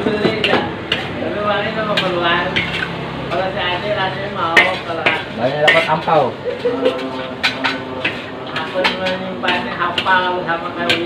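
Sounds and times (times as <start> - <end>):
metal spatula scraping wok: 0.0 - 11.0.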